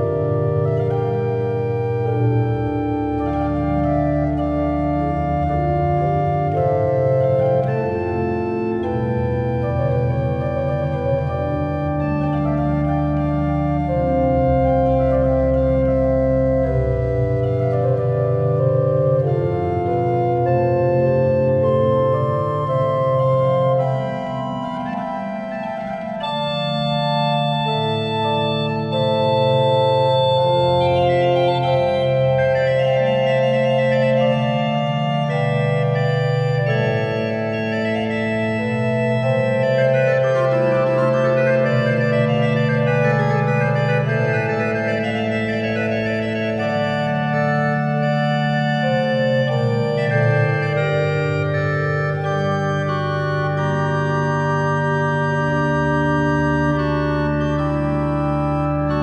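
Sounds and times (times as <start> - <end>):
chamber organ playing: 0.0 - 59.0.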